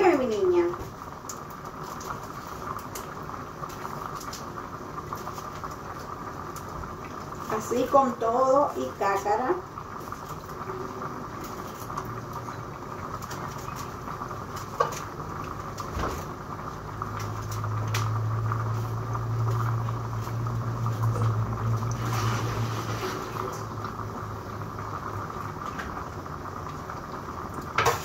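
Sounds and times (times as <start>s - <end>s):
pot simmering: 0.0s - 28.0s.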